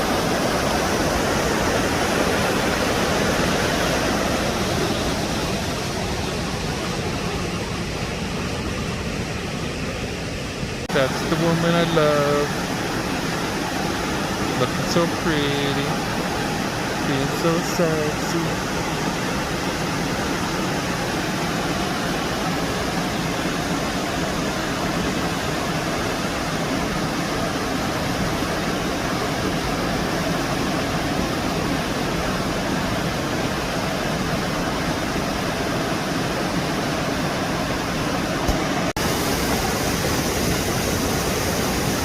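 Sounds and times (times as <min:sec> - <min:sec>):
waterfall rushing over rock: 0:00.0 - 0:42.0.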